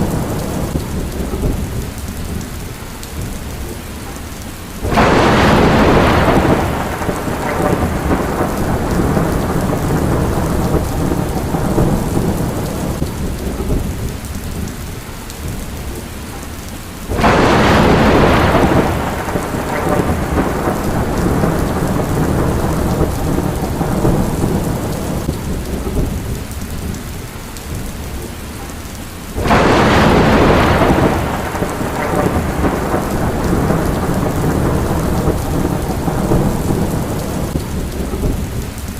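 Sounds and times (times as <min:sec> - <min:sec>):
thunder rolling: 0:00.0 - 0:02.6, 0:04.8 - 0:16.0, 0:17.1 - 0:28.0, 0:29.3 - 0:38.9
heavy rain: 0:00.0 - 0:38.9.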